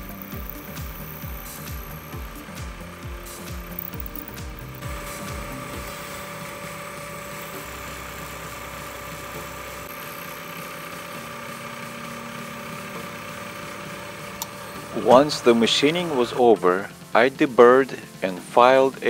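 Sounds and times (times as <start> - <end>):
milling machine whining: 0.0 - 19.0.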